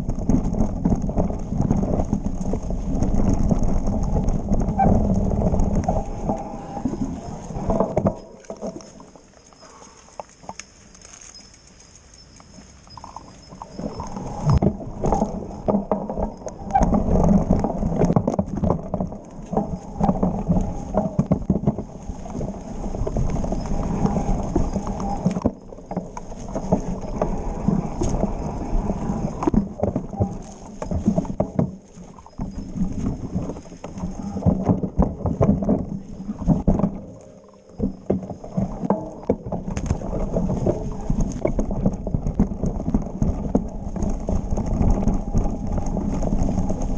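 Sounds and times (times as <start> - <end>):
mountain bike rattling over rocks: 0.0 - 46.9.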